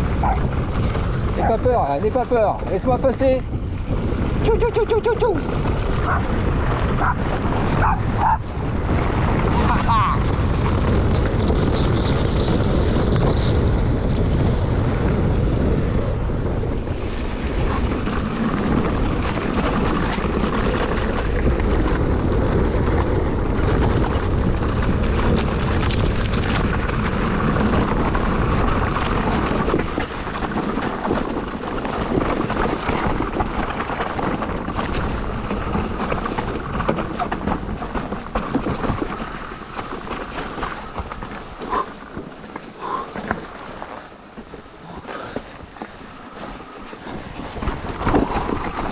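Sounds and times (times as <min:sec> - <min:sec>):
bike rattles and clicks: 0:00.0 - 0:48.9
tyres rolling on dirt: 0:00.0 - 0:48.9
wind on microphone: 0:00.0 - 0:48.9.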